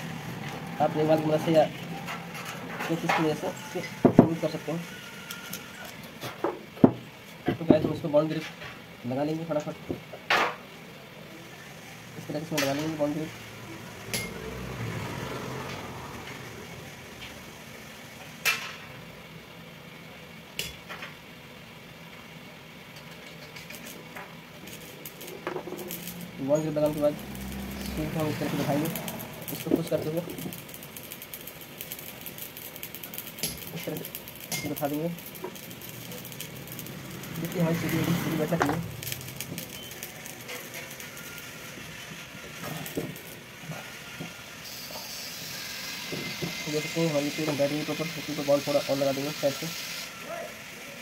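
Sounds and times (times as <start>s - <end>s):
steady background noise: 0.0s - 51.0s.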